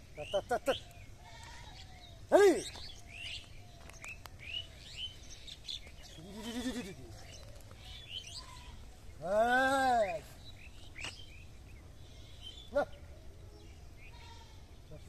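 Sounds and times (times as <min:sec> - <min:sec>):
drawn-out bird calls: 0:00.0 - 0:15.0
small birds chirping: 0:00.0 - 0:15.0.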